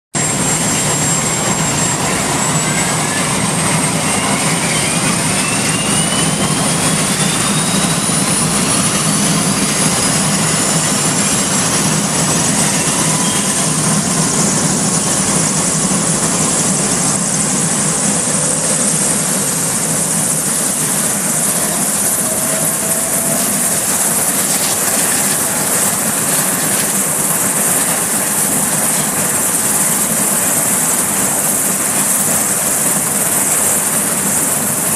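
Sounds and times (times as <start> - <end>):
helicopter turbine engines starting: 0.2 - 34.9.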